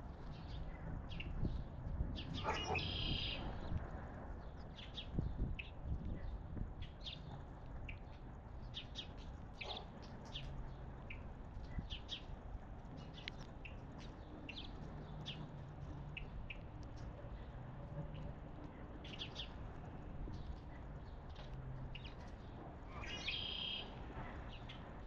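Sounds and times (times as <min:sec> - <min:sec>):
songbirds chirping: 0:00.1 - 0:25.0.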